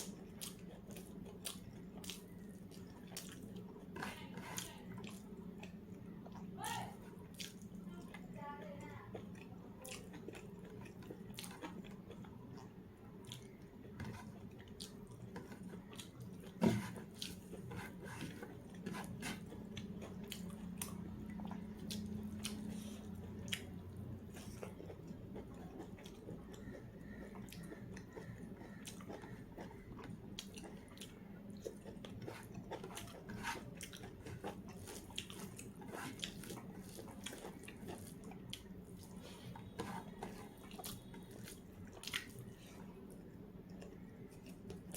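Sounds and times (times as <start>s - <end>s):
person chewing food: 0.0s - 8.4s, 9.1s - 44.9s.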